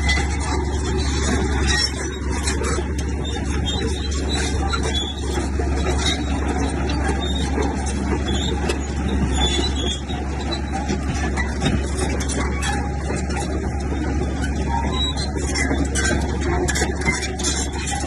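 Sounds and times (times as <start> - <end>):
bulldozer diesel engine rumbling: 0.0 - 18.0
rapid metallic clatter: 0.0 - 18.0.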